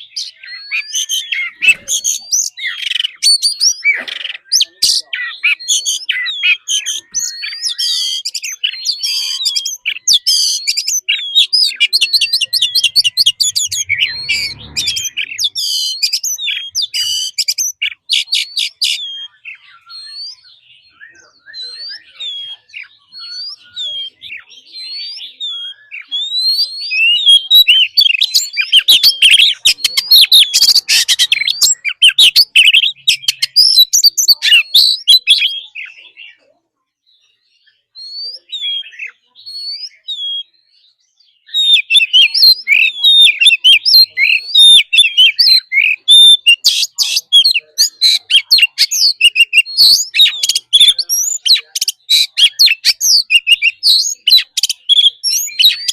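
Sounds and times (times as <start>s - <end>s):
magpie-robin singing: 0.0s - 55.9s.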